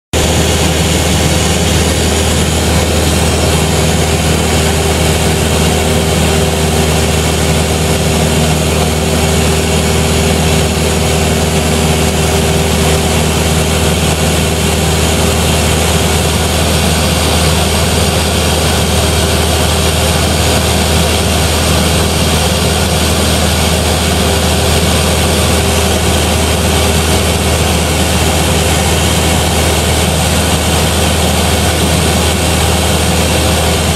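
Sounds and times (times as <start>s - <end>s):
propeller plane engine droning: 0.1s - 33.9s.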